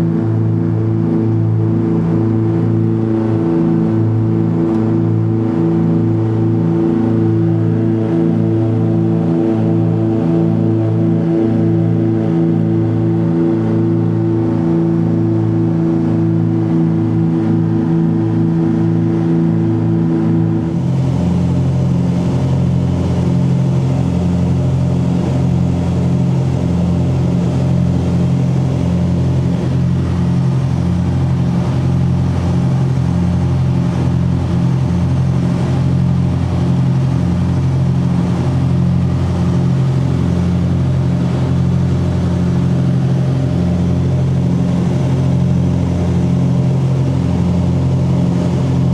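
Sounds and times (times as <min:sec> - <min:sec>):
twin piston aircraft engines throbbing: 0:00.0 - 0:48.9.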